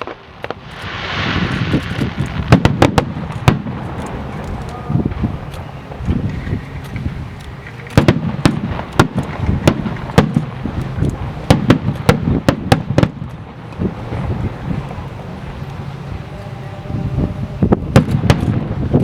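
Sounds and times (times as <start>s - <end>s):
fireworks sharp bangs: 0.0s - 16.6s, 17.2s - 19.0s
low fireworks booming: 0.0s - 19.0s.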